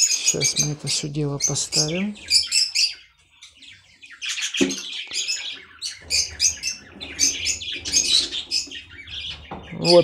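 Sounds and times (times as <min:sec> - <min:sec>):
budgerigars chattering and chirping: 0:00.0 - 0:10.0.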